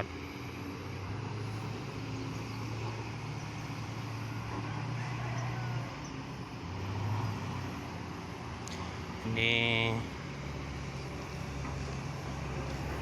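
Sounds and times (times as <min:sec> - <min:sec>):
heavy engine droning: 0:00.0 - 0:13.0.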